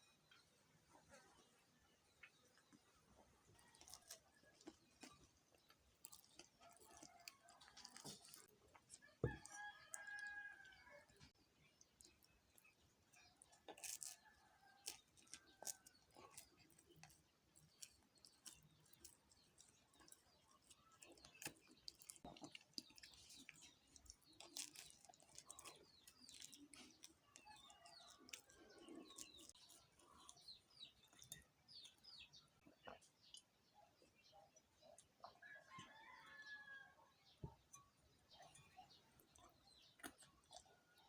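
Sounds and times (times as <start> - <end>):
faint small birds chirping: 0.0 - 41.0.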